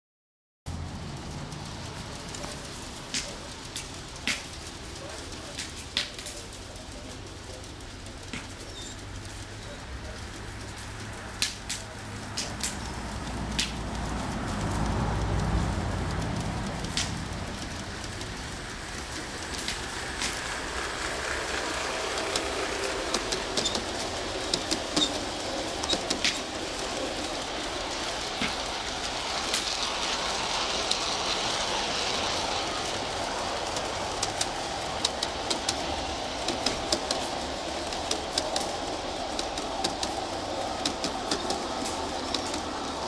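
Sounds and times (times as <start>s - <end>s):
model train rumbling past: 0.7s - 43.0s
wheels clicking over rail joints: 0.7s - 43.0s.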